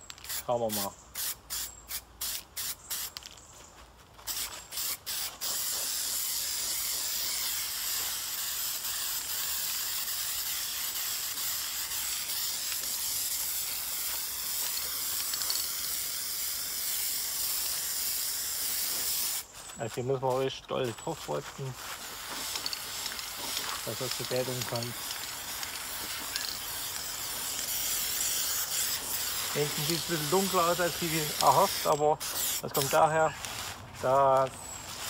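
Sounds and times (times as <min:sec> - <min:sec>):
spray paint can hissing: 0:00.0 - 0:03.4, 0:04.2 - 0:35.0.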